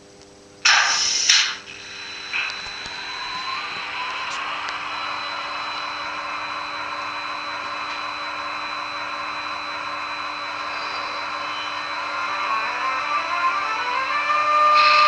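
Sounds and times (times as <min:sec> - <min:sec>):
model train whirring hum: 0:00.6 - 0:15.0
rising electric converter tone: 0:00.6 - 0:15.0.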